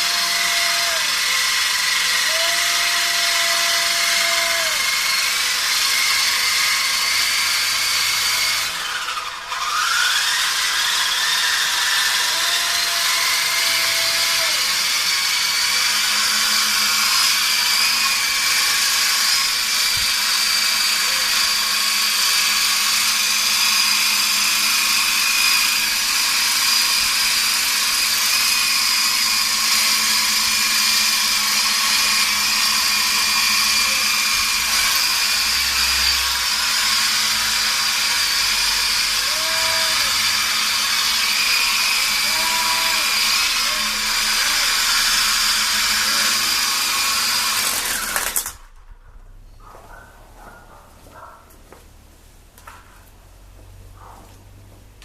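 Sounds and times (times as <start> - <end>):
toy helicopter motor whine: 0.0 - 48.7.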